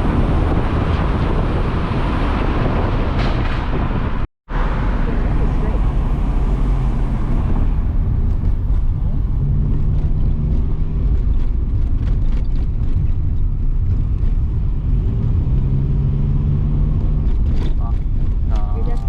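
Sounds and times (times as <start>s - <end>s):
low road rumble: 0.0s - 19.0s.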